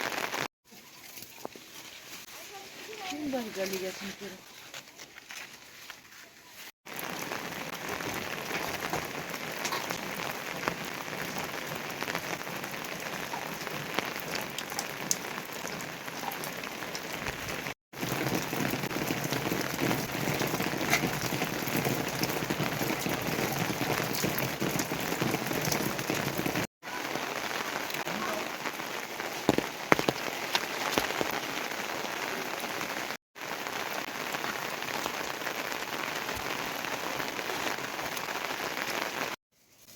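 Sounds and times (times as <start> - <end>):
heavy rain falling: 0.0 - 0.5, 6.9 - 39.4.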